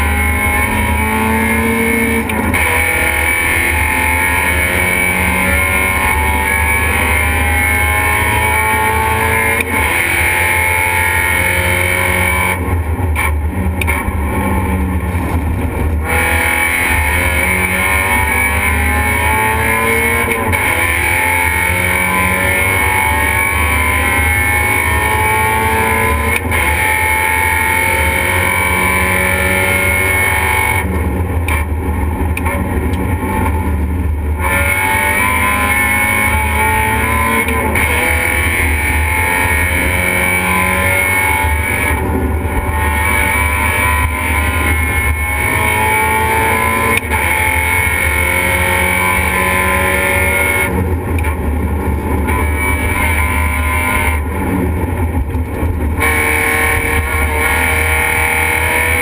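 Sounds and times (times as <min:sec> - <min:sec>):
race car engine at hard throttle: 0:00.0 - 0:59.0.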